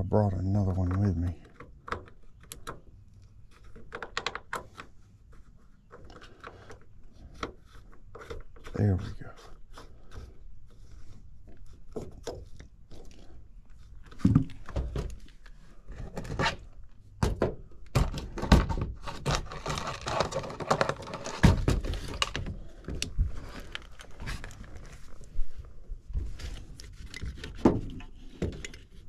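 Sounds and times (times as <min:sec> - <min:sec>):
rustling and scraping: 0:00.6 - 0:17.2, 0:18.0 - 0:29.0.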